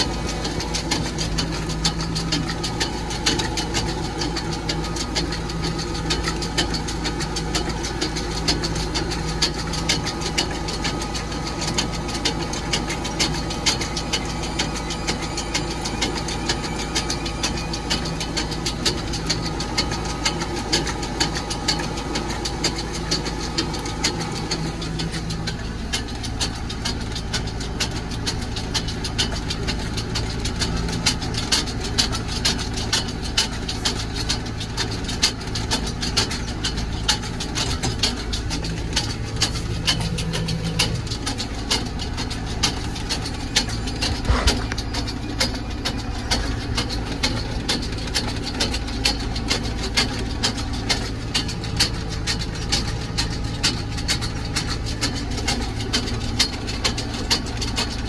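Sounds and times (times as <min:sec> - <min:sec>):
fast clicking rattle: 0:00.0 - 0:58.0
tractor engine running: 0:00.0 - 0:58.0.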